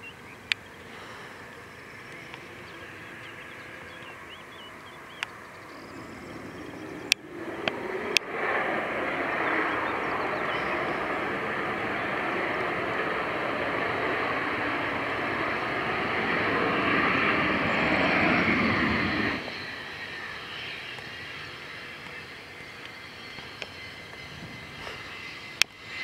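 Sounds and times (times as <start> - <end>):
birds chirping: 0.0 - 25.7
jet engines rushing: 0.0 - 26.0.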